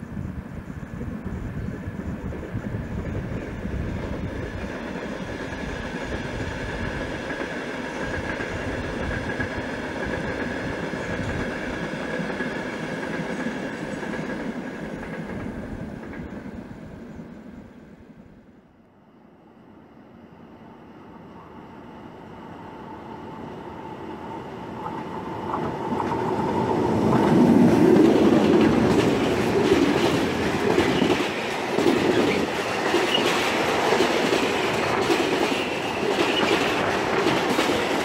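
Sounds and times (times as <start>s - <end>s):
train wheels rumbling on rails: 0.0s - 17.9s, 23.8s - 38.0s.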